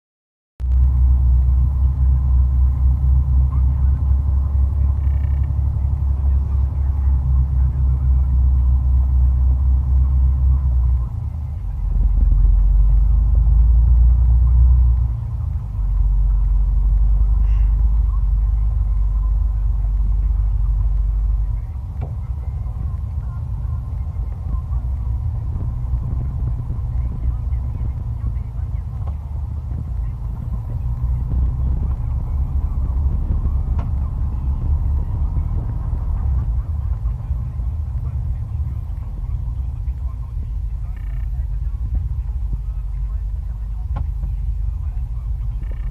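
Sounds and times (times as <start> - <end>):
truck diesel engine rumble: 0.6 - 45.9.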